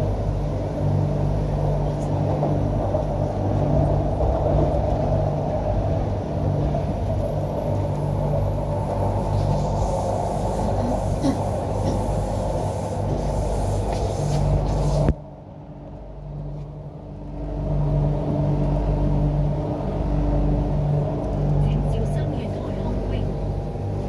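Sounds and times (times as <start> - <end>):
train rumbling through tunnel: 0.0 - 24.0.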